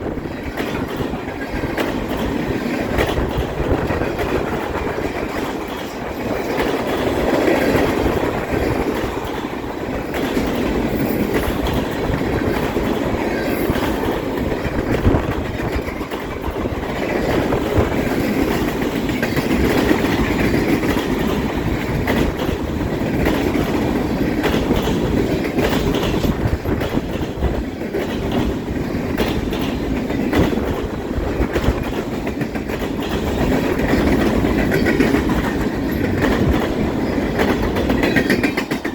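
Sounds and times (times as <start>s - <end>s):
freight train wheels rumbling: 0.0s - 38.9s
wheels clicking and clacking: 0.4s - 38.9s.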